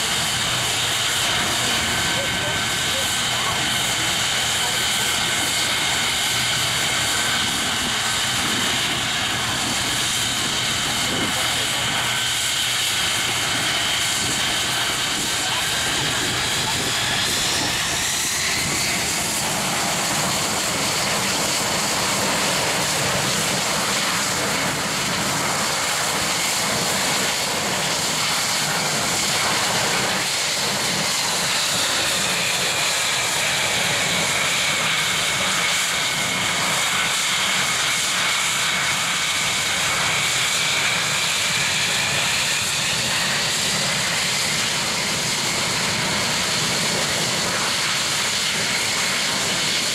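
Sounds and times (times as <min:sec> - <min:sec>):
high turbine whine: 0:00.0 - 0:49.9
jet engine roar: 0:00.0 - 0:49.9.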